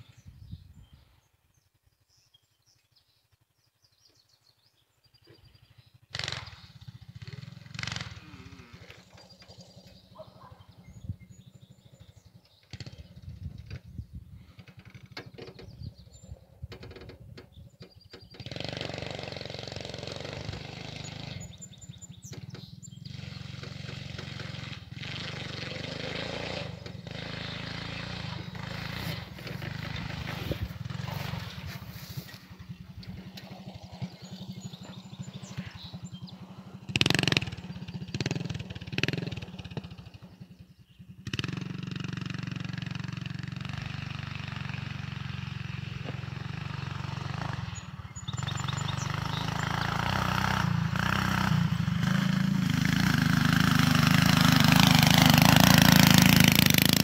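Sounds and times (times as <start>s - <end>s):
small bike engine running: 5.4s - 57.0s.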